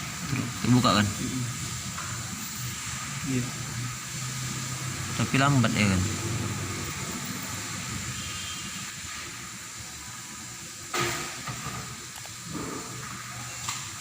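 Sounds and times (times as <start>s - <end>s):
hiss of water heating: 0.0s - 14.0s.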